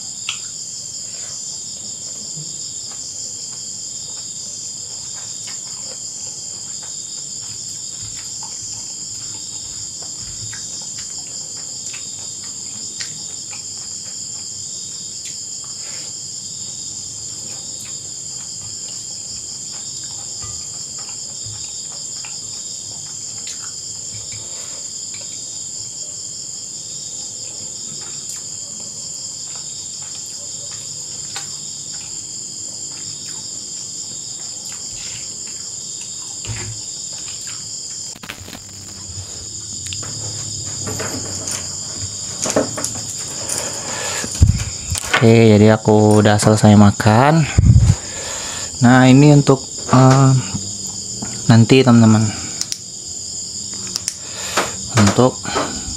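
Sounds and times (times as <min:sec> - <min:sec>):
insects trilling at night: 0:00.0 - 0:55.9.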